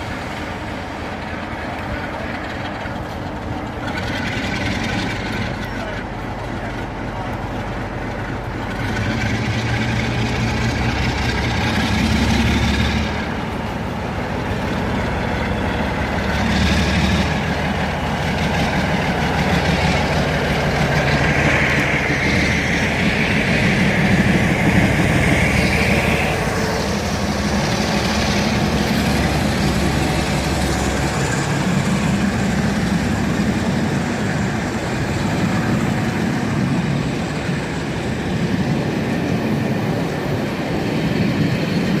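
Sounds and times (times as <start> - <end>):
diesel locomotive engine throbbing: 0.0 - 42.0.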